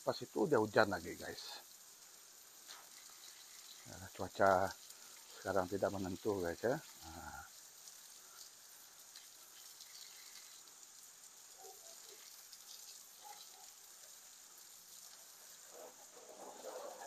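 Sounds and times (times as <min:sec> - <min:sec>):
water spraying from a hose: 0:00.0 - 0:17.0.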